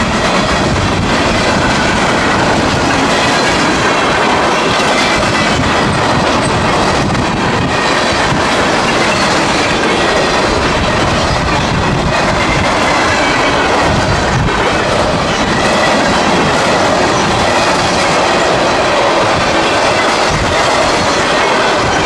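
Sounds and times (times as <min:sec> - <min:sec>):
freight train rolling past: 0:00.0 - 0:22.0.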